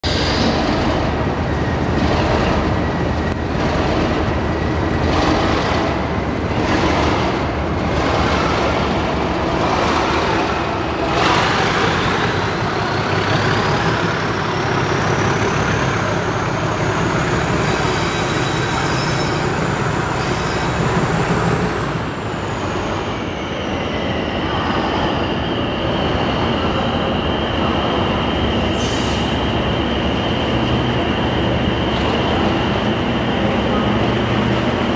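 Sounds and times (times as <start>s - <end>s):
diesel locomotives working hard: 0.0s - 34.9s.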